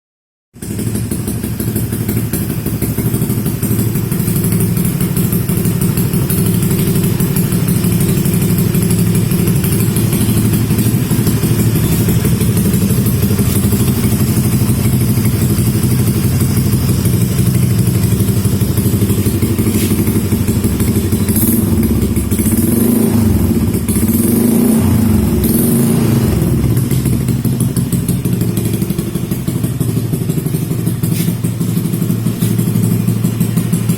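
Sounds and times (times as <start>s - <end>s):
scooter engine running: 0.6s - 33.9s.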